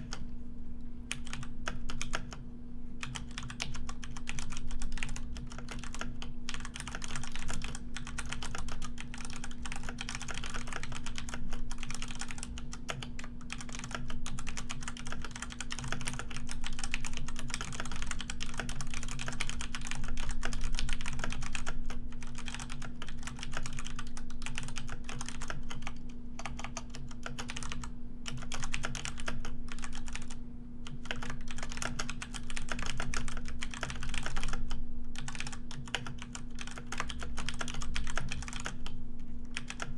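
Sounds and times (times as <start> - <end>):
steady low hum: 0.0 - 39.9
keyboard typing: 1.1 - 2.4, 3.0 - 38.9, 39.5 - 39.9.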